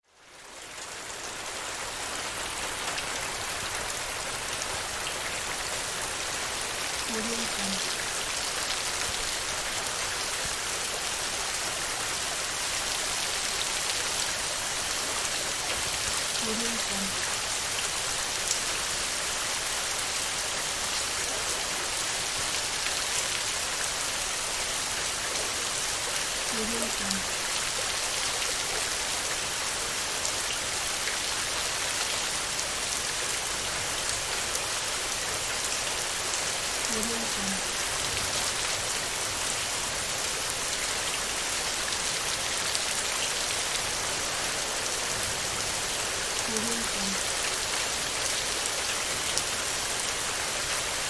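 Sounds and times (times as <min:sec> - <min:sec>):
individual raindrops: 0:00.0 - 0:51.0
rain drumming on a metal roof: 0:00.0 - 0:51.0.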